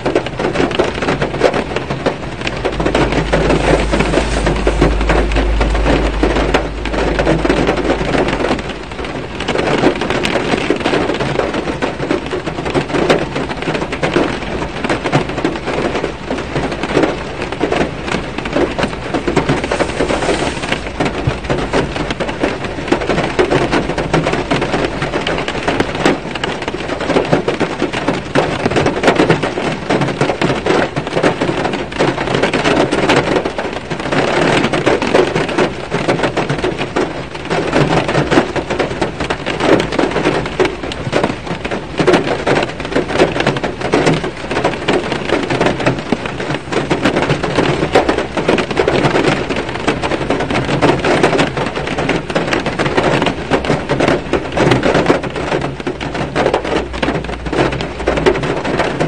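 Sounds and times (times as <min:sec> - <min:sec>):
rain on car roof: 0:00.0 - 0:59.0.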